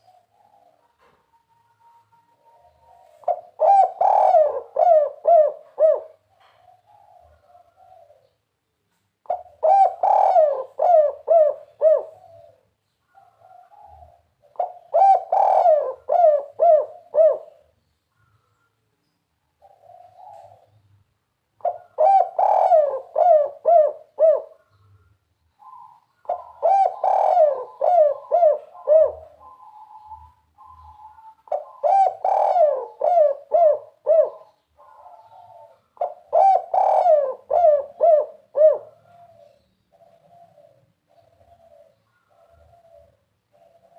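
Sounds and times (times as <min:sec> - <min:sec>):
dove cooing: 0:00.0 - 0:08.4, 0:09.2 - 0:18.6, 0:19.6 - 0:20.9, 0:21.6 - 0:43.9.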